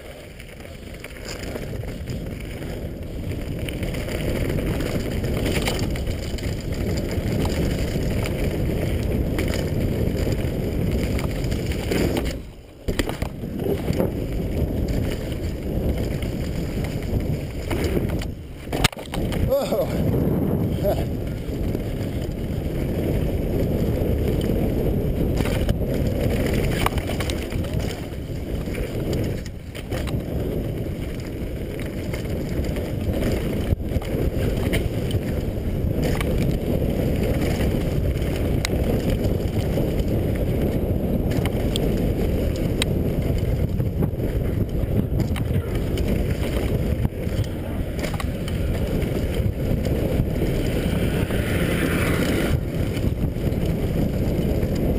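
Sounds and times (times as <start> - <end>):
bike rattling clicks and knocks: 0.0 - 54.9
tyres rumbling on dirt trail: 0.0 - 54.9
wind rushing over microphone: 0.0 - 54.9.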